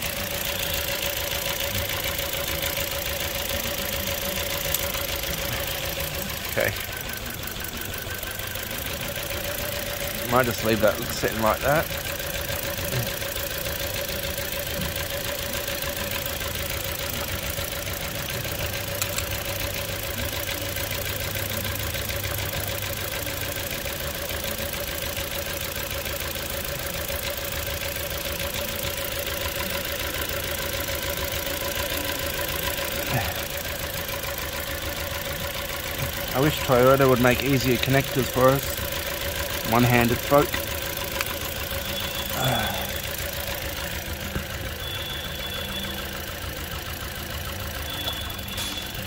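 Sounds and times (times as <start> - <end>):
car engine idling with misfire: 0.0 - 49.0.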